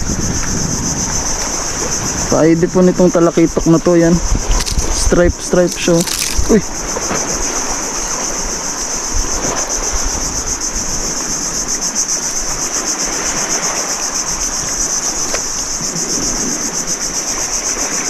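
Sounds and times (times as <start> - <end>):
insect chorus trilling: 0.0 - 18.0
water: 0.0 - 18.0
wind: 0.0 - 18.0.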